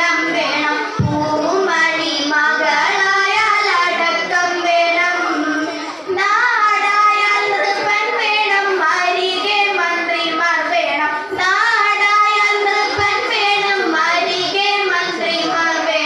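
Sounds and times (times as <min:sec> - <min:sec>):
girls singing: 0:00.0 - 0:16.0.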